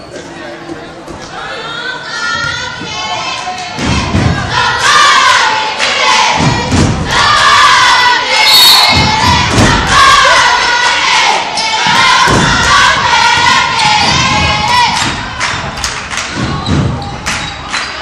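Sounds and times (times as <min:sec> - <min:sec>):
crowd shouting and cheering: 0:01.4 - 0:18.0.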